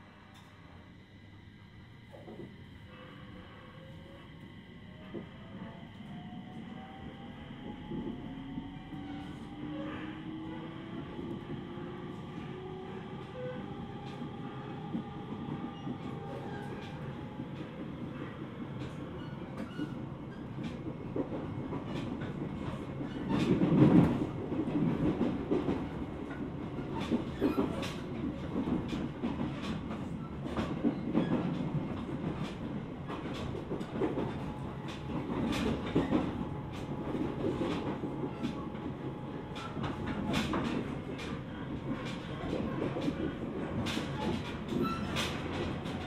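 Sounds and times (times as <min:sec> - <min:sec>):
train wheels rumbling on rail: 0:01.8 - 0:46.0.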